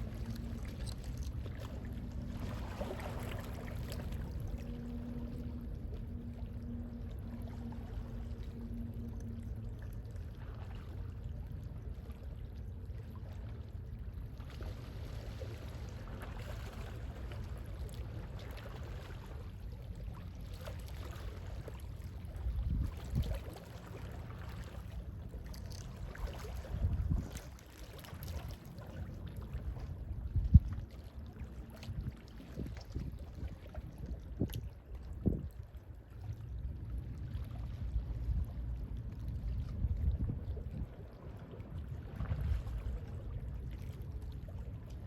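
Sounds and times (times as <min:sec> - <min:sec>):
sea waves lapping: 0:00.0 - 0:45.0.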